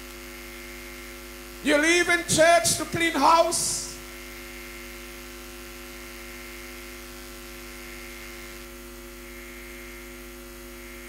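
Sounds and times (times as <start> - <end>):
electrical mains hum and buzz: 0.0 - 11.0.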